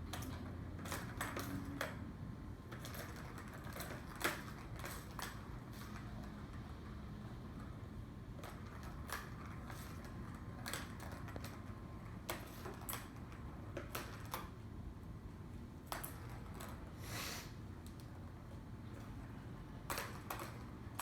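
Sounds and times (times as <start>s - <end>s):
cat toy balls rattling and clicking: 0.0s - 14.8s, 15.7s - 17.0s, 17.6s - 21.0s
low room hum: 0.0s - 21.0s.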